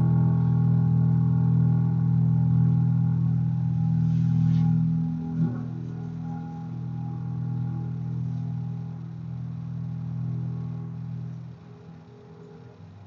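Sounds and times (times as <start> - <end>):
double bass low drone: 0.0 - 13.0.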